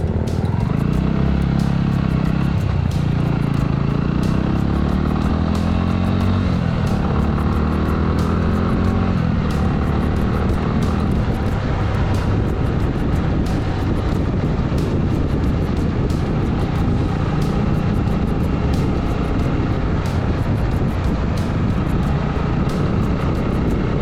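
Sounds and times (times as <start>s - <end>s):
motorcycle engine running: 0.0s - 24.0s
road noise: 0.0s - 24.0s
wind noise: 0.0s - 24.0s.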